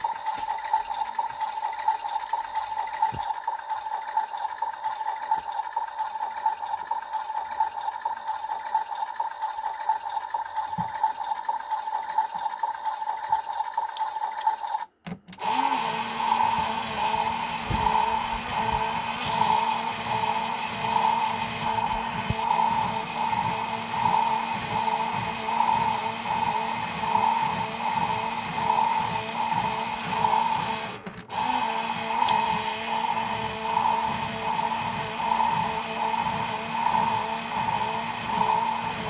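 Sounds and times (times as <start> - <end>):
toy washing machine motor whine: 0.0 - 39.0.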